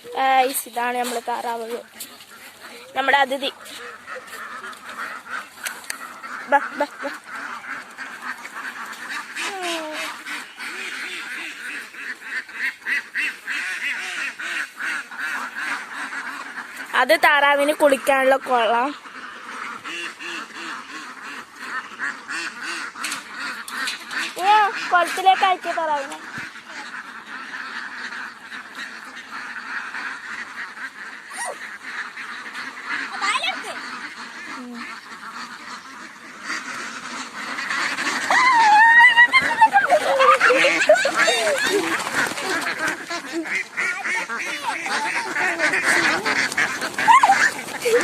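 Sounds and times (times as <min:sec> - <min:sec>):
ducks quacking: 0:00.0 - 0:48.0.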